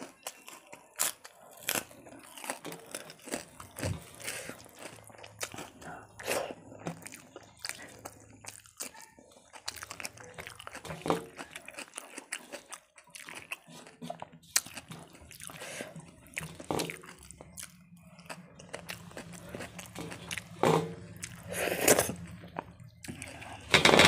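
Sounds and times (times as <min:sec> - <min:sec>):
chewing with wet mouth clicks: 0:00.0 - 0:23.5.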